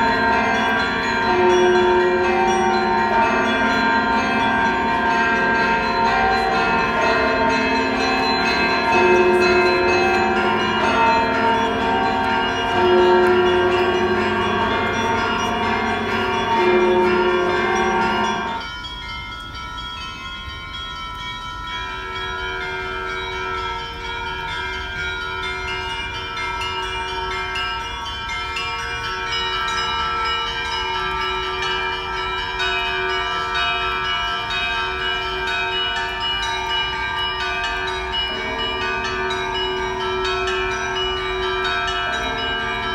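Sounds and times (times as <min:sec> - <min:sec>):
church bells ringing a peal: 0:00.0 - 0:42.9.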